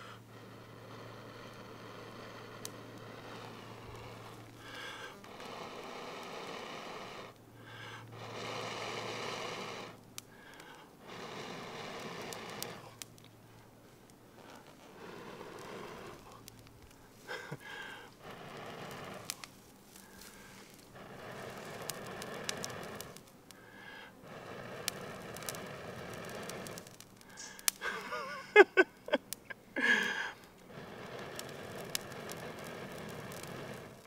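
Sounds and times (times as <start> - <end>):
breaths blown into tinder: 0.0 - 13.1, 14.4 - 28.3, 29.8 - 34.0.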